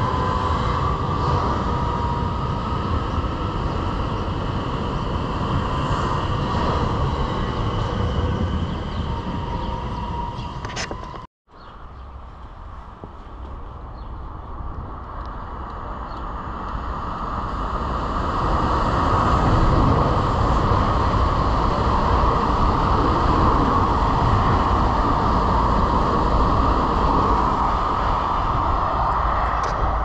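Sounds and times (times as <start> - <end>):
train passing at speed: 0.0 - 10.6, 12.6 - 30.0.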